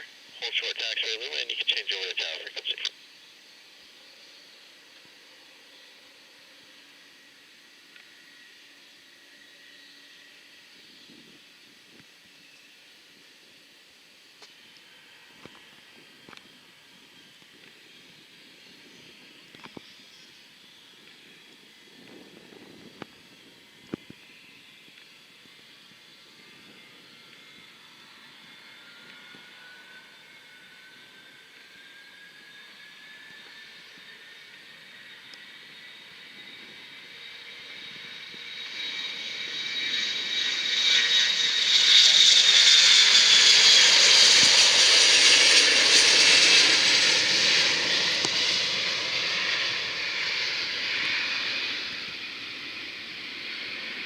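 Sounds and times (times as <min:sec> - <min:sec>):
distant jet engines: 0:00.0 - 0:54.0.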